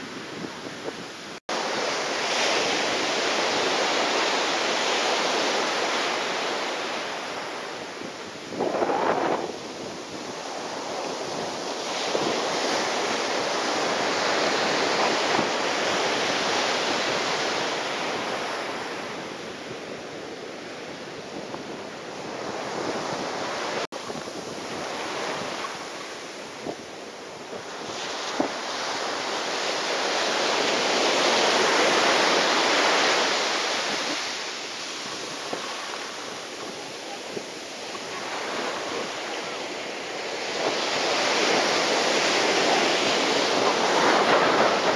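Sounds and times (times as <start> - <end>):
breaking surf: 0.0 - 44.9
wind buffeting microphone: 0.0 - 44.9.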